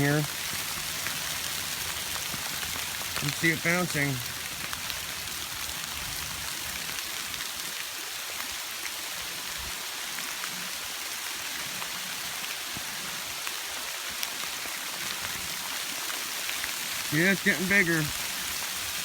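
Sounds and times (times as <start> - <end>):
hail hissing down: 0.0 - 19.0
hailstones ticking and bouncing: 0.0 - 19.0.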